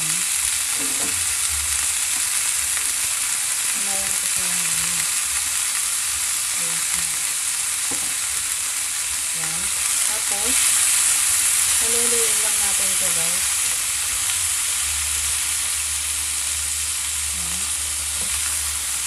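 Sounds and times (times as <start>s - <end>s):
crabs sizzling in hot oil: 0.0s - 19.0s.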